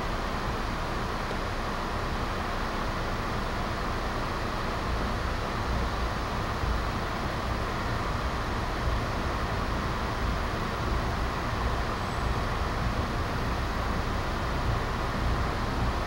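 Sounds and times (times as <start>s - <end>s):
train rumble and hiss: 0.0s - 16.0s.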